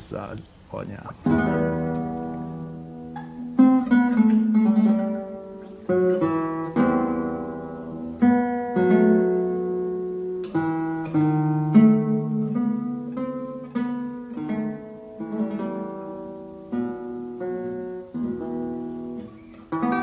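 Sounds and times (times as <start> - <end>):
solo guitar chords: 1.1 - 20.0.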